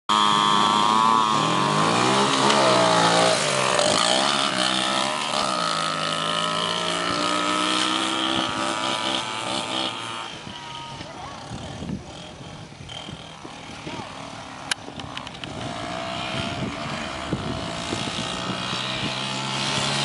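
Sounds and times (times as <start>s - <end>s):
dirt bike engine revving: 0.1s - 20.0s
quad engine revving: 0.1s - 20.0s.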